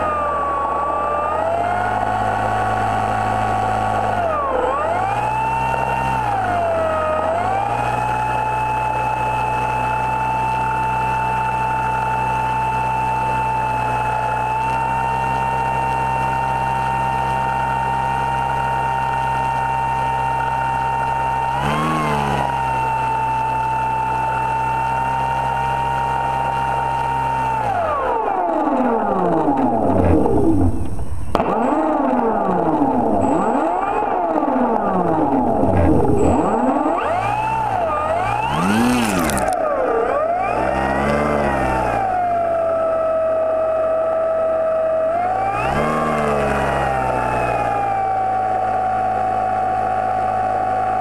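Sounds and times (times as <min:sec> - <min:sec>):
model boat motor: 0:00.0 - 0:51.0.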